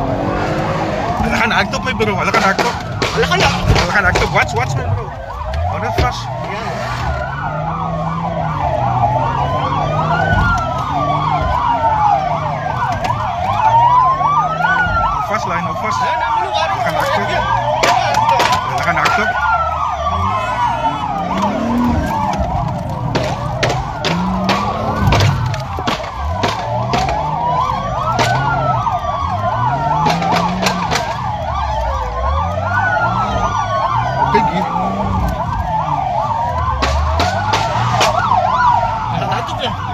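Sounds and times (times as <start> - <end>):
car engine and road rumble: 0.0 - 39.9
rapid warbling police siren: 0.0 - 39.9
slow wailing police siren: 0.0 - 39.9.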